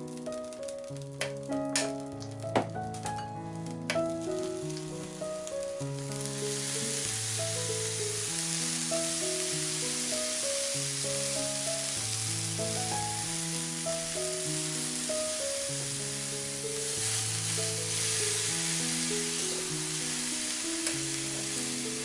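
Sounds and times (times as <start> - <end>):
slow background music: 0.0 - 22.0
vegetables sizzling on a grill: 0.0 - 22.0.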